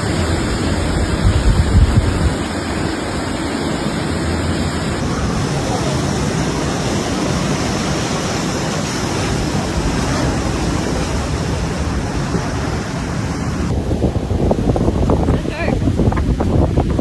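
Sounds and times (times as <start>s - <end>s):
heavy surf: 0.0s - 17.0s
wind: 0.0s - 17.0s.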